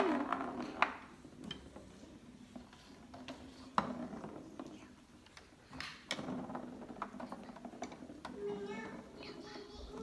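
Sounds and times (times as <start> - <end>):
toys clicking and knocking: 0.0 - 10.0.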